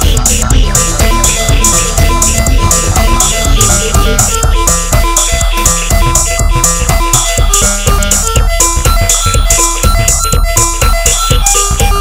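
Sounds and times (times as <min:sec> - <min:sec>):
deep techno beat: 0:00.0 - 0:12.0
hi-hat hiss: 0:00.0 - 0:12.0
short synth notes: 0:00.0 - 0:12.0.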